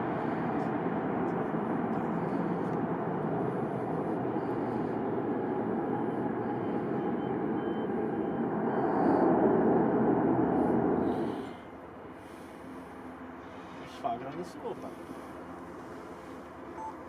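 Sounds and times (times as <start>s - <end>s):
faint constant tone: 0.0s - 17.0s
turboprop aircraft drone: 0.0s - 17.0s.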